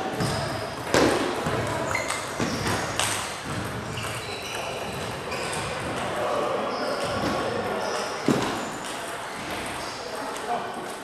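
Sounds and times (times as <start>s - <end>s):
background clatter of a hall: 0.0s - 11.0s.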